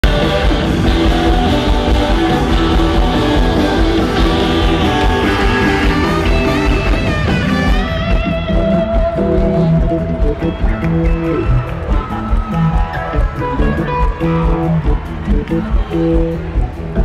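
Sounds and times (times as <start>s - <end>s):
electric guitar bent notes: 0.0s - 15.2s
live rock band playing: 0.0s - 17.0s.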